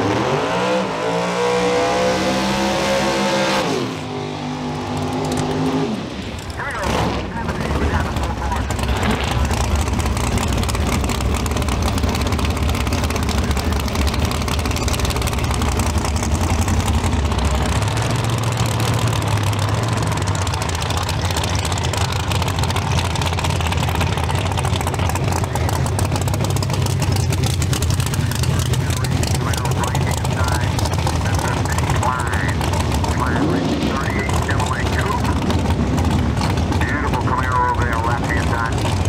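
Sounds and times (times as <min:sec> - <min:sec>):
drag race car engines rumbling: 0:00.0 - 0:39.0.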